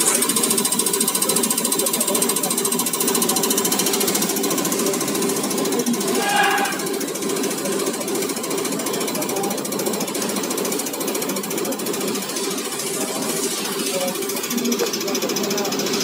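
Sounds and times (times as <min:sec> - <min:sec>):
injector ticking clatter: 0:00.0 - 0:16.0
test bench pump hum: 0:00.0 - 0:16.0.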